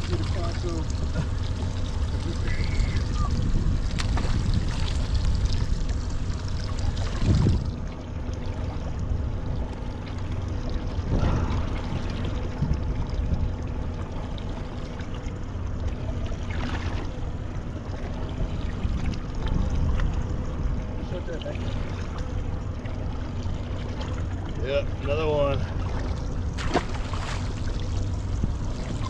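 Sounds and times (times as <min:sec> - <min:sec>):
boat engine rumble: 0:00.0 - 0:29.0
water sloshing and splashing: 0:00.0 - 0:29.0.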